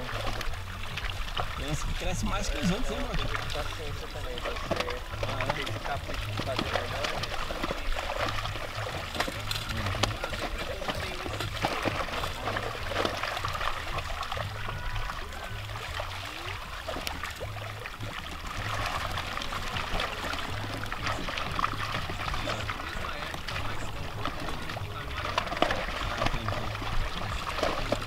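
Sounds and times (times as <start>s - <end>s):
music playing: 0.0s - 28.0s
water splashing and sloshing: 0.0s - 28.0s
fish thrashing in net: 4.4s - 28.0s.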